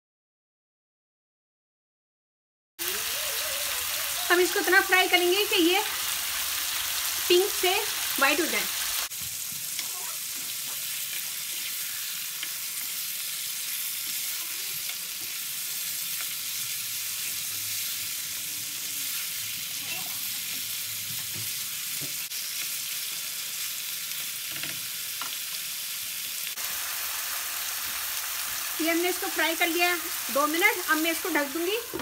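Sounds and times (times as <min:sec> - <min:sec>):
chicken sizzling in oil: 0:02.8 - 0:32.0.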